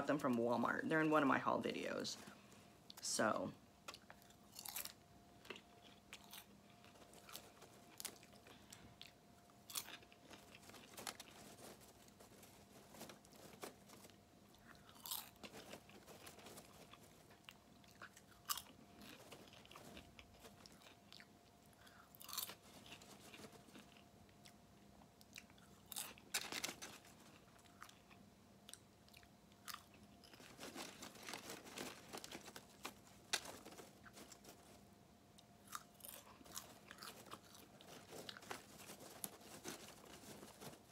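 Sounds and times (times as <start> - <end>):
chewing and crunching popcorn: 0.0 - 40.9.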